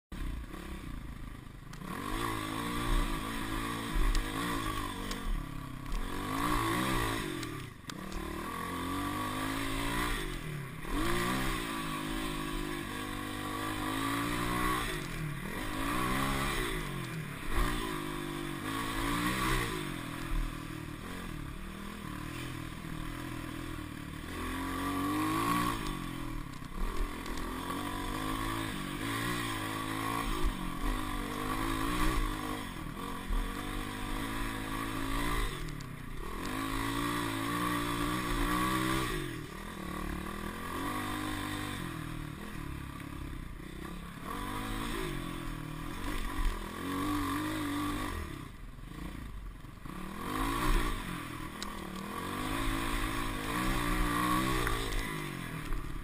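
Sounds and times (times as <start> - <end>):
motorcycle engine revving: 0.1 - 56.0.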